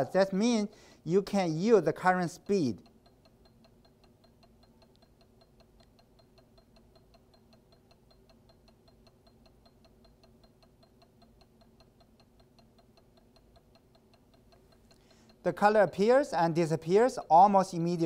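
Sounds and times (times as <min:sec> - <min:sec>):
faint even ticking: 0:00.0 - 0:18.0.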